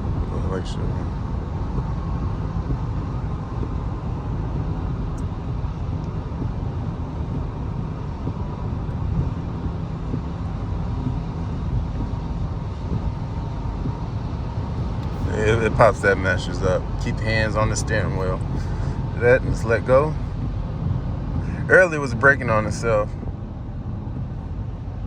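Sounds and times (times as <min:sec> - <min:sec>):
faint steady whine: 0:00.0 - 0:25.0
road and engine rumble in car: 0:00.0 - 0:25.0.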